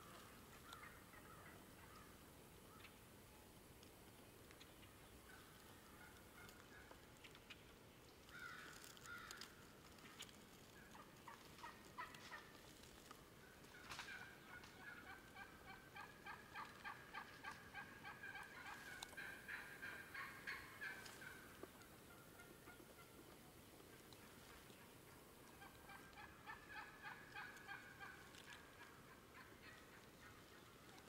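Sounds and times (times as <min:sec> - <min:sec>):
wild turkeys calling: 0:00.0 - 0:03.0, 0:04.6 - 0:31.0.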